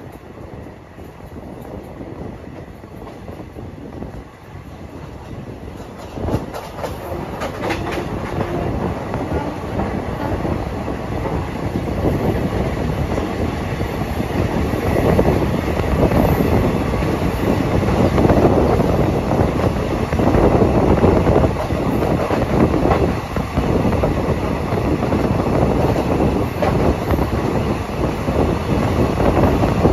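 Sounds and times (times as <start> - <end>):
train rumble: 0.0 - 29.9
train wheels clickety-clack: 0.0 - 29.9.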